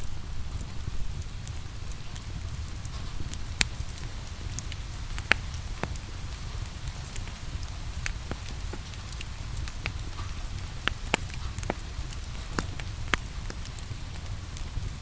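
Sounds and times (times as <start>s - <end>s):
rain rumble and hiss: 0.0s - 15.0s
wood fire crackling: 0.0s - 15.0s.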